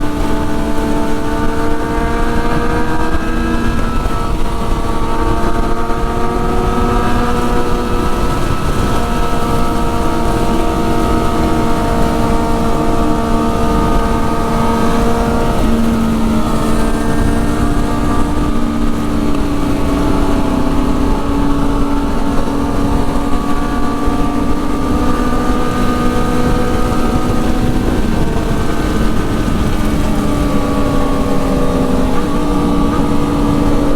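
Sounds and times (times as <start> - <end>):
motorcycle engine cruising: 0.0 - 33.9
wind rumble on microphone: 0.0 - 33.9.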